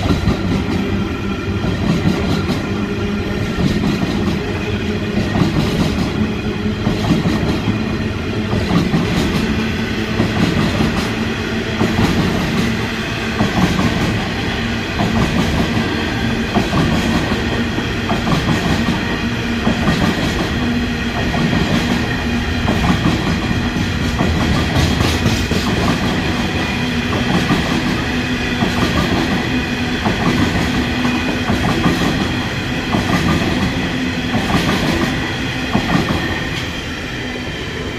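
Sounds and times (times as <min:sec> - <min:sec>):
train wagons rumbling past: 0:00.0 - 0:37.9.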